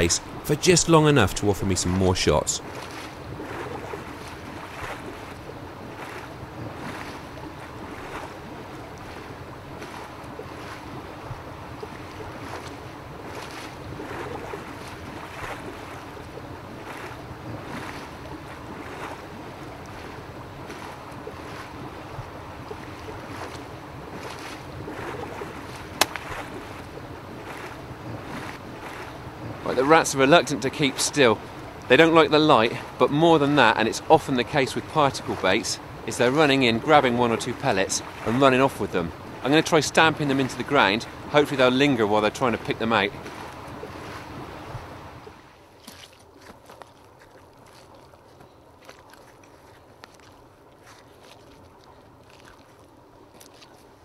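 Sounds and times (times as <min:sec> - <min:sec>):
water pumps churning: 0:00.0 - 0:54.0.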